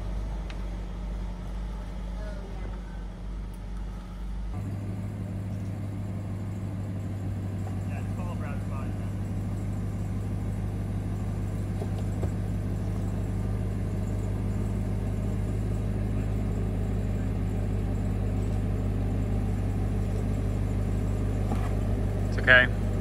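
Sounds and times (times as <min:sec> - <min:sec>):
vehicle engine running at low revs: 0:00.0 - 0:23.0.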